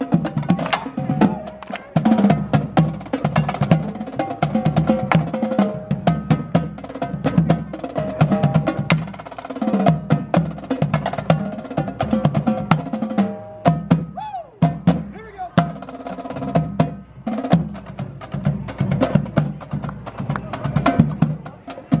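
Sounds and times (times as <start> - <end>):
upbeat percussive music: 0.0 - 22.0.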